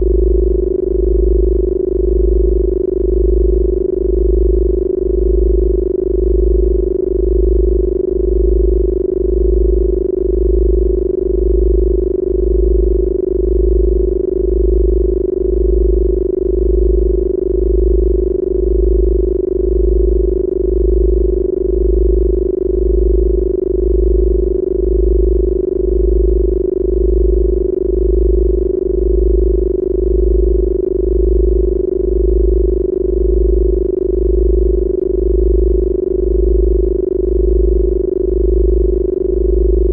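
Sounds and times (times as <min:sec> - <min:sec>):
deep pulsing low hum: 0:00.0 - 0:39.9
steady electronic tone: 0:00.0 - 0:39.9.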